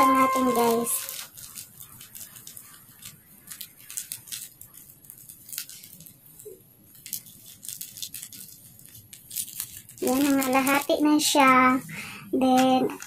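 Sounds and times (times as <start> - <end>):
crystals trickling into plastic bottle: 0.0 - 11.4.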